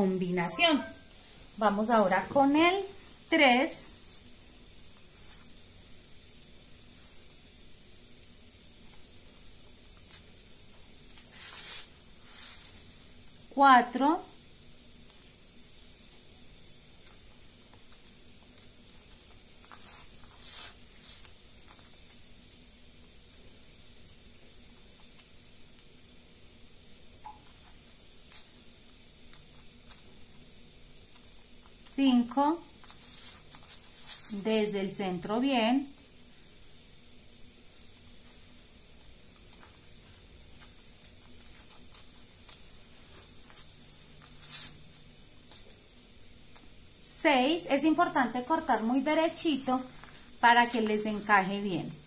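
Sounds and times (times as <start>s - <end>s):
faint hiss: 0.0s - 52.0s.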